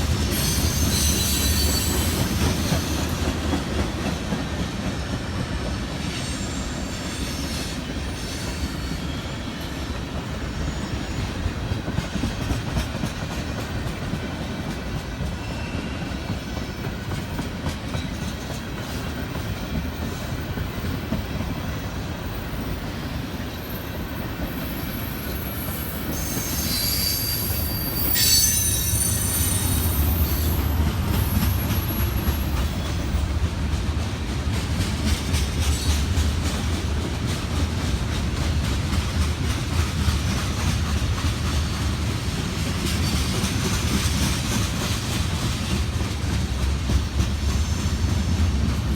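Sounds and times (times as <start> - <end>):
wheels squealing on rails: 0.0 - 33.5, 34.5 - 48.9
freight train rolling past: 0.0 - 48.9.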